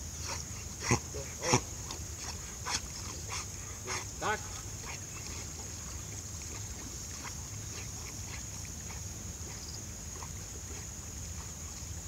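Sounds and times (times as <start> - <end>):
dog paddling in water: 0.0 - 12.0.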